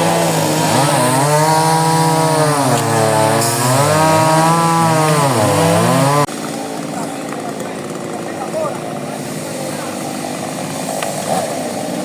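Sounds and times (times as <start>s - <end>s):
chainsaws cutting wood: 0.0s - 12.0s.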